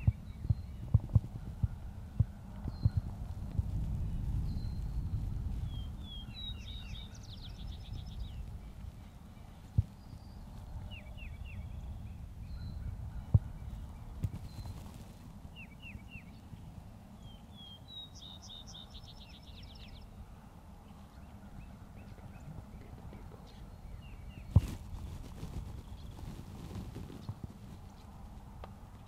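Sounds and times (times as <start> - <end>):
birds chirping: 0.0 - 3.2, 4.1 - 28.2
steady low rumble: 0.0 - 29.0.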